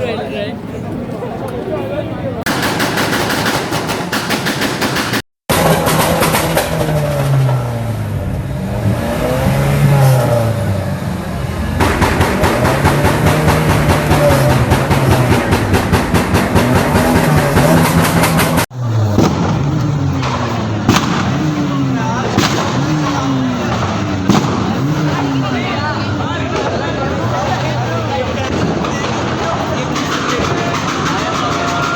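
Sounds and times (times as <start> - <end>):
exhaust pops and backfires: 2.5 - 31.9
car engines revving: 5.5 - 31.9.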